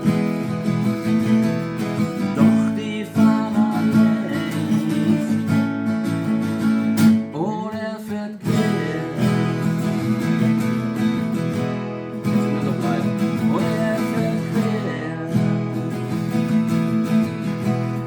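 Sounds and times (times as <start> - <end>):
strummed acoustic guitar song: 0.0 - 18.0.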